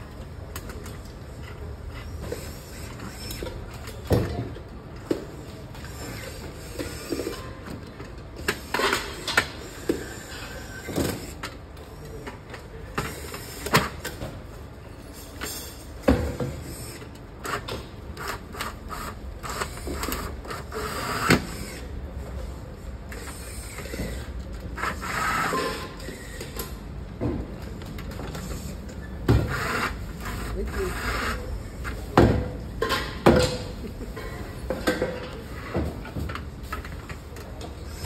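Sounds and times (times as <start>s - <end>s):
workshop background noise: 0.0s - 38.0s.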